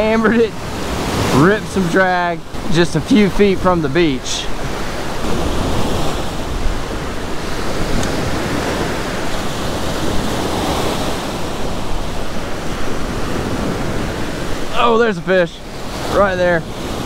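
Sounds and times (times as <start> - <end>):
ocean surf breaking on sand: 0.0 - 17.0.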